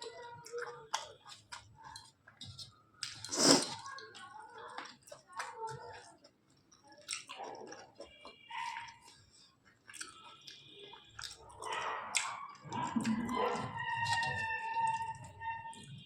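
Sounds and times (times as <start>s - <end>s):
close-up chewing: 0.0s - 16.0s.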